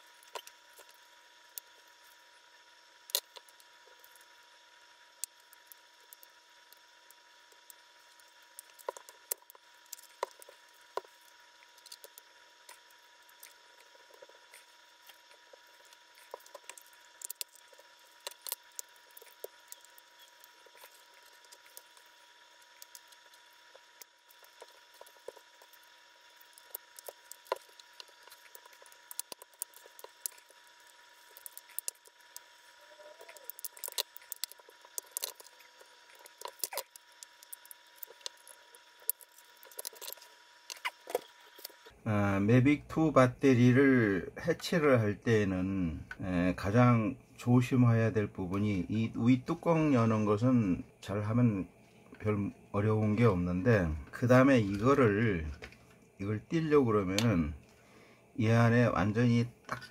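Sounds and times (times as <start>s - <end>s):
faint steady tone and hiss: 0.0s - 59.9s.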